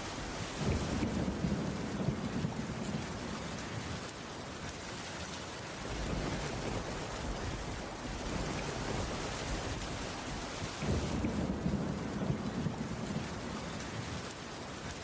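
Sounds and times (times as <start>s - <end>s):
rolling thunder rumble: 0.0s - 4.1s, 5.8s - 14.4s
steady rain: 0.0s - 15.0s.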